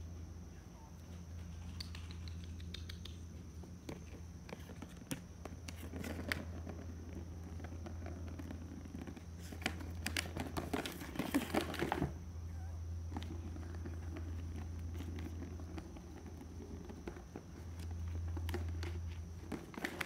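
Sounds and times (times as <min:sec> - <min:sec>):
steady low hum: 0:00.0 - 0:20.0
kitten playing taps and scrabbles: 0:01.0 - 0:12.1, 0:13.1 - 0:20.0.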